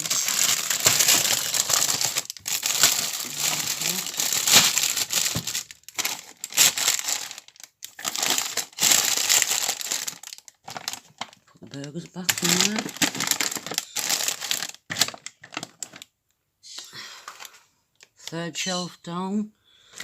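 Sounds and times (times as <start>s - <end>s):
plastic packaging crinkling: 0.0s - 16.1s.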